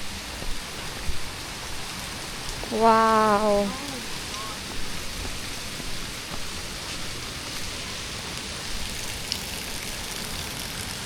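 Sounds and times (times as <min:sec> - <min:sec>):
waterfall pouring onto rocks: 0:00.0 - 0:11.0.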